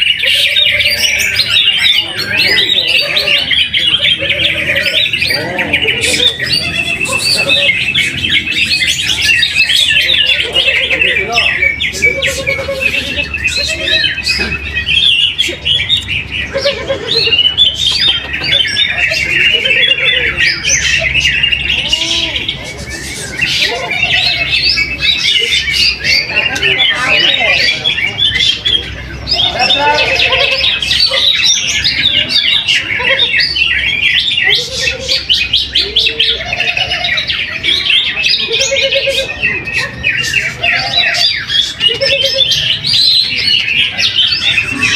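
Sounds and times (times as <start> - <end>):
bird chirping and twittering: 0.0 - 44.9
caged songbirds singing: 0.0 - 44.9
other birds whistling: 0.0 - 44.9.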